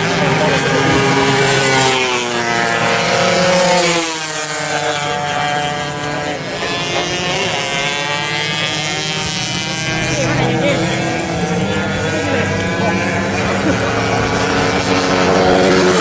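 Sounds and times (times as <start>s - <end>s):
racing motorcycles revving past: 0.0s - 16.0s.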